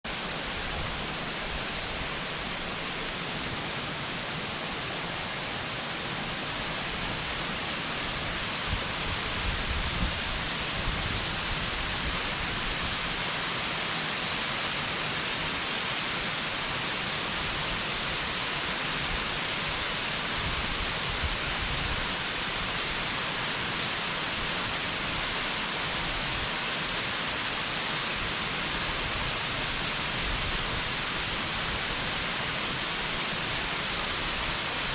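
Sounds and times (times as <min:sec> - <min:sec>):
distant waterfall rushing: 0:00.1 - 0:34.9.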